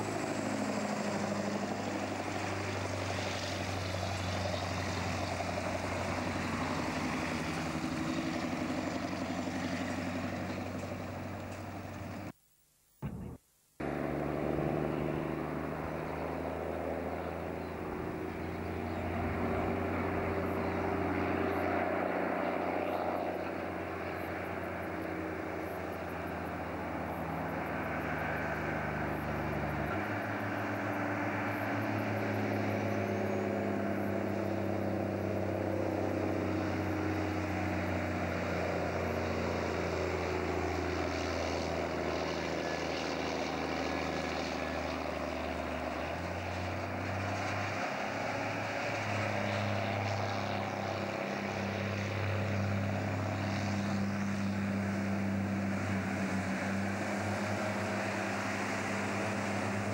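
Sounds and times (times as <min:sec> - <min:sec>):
truck diesel engine droning: 0:00.0 - 0:12.4, 0:13.0 - 0:59.9.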